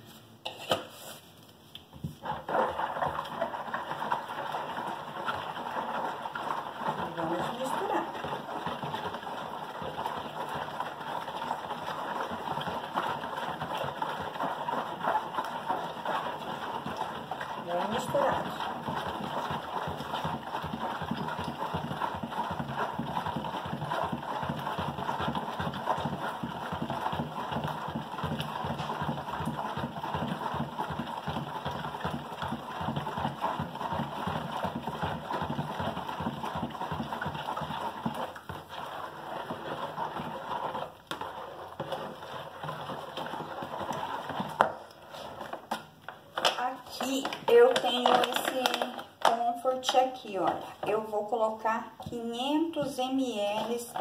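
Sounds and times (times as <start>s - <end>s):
spoon scraping plastic bowl: 0.0s - 1.4s, 2.0s - 51.3s, 52.0s - 54.0s.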